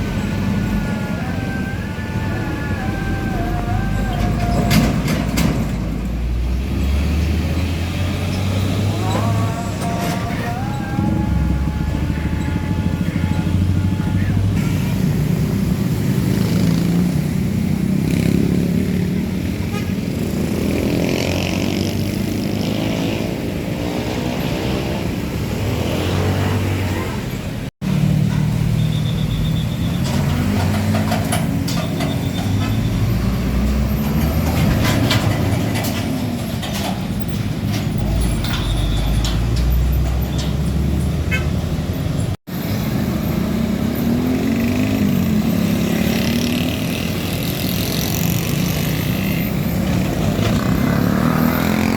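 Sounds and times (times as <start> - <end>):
diesel trucks driving past: 0.0 - 51.9.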